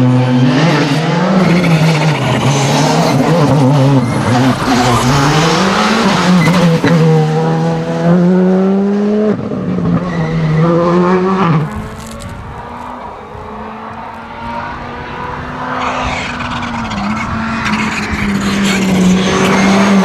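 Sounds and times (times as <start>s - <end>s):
rally car engine at full throttle: 0.0s - 20.0s.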